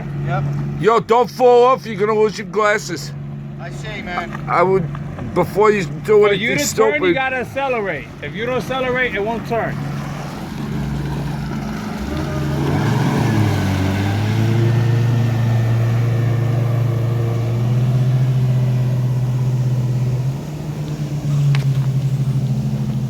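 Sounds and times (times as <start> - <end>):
jet ski engine under throttle: 0.0 - 23.0.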